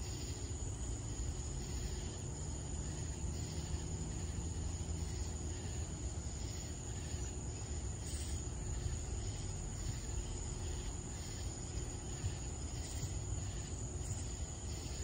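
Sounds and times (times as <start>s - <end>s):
constant low rumble: 0.0s - 15.0s
insects high-pitched trill: 0.0s - 15.0s.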